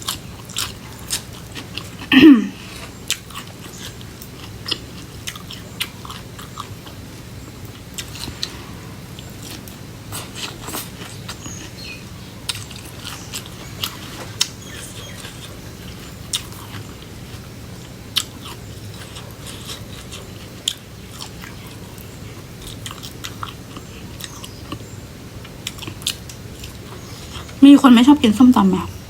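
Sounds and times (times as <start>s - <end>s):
crunchy chewing: 0.0s - 27.6s.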